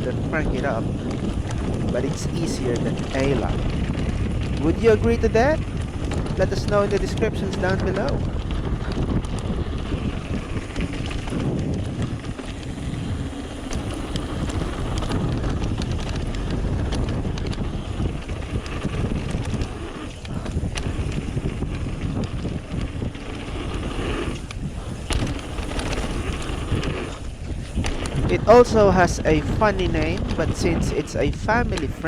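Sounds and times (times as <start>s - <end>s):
bike rattles and knocks: 0.0s - 32.0s
bike tyre rumble on dirt: 0.0s - 32.0s
wind buffeting microphone: 0.0s - 32.0s.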